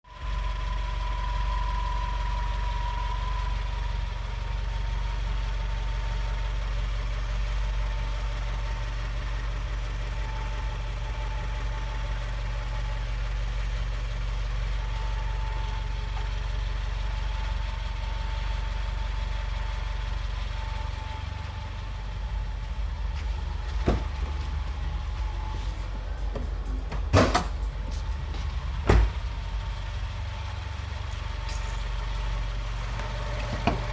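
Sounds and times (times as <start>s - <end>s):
car engine idling with whine: 0.0s - 33.9s.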